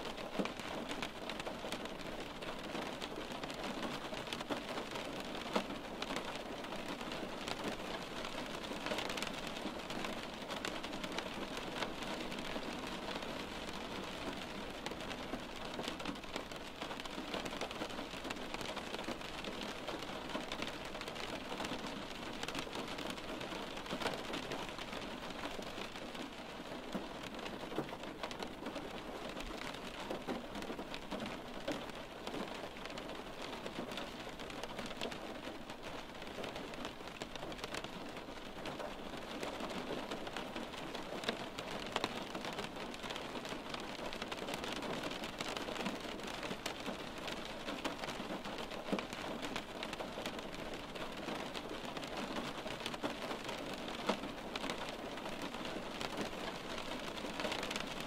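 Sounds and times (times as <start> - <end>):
raindrops tapping on window glass: 0.0 - 58.0.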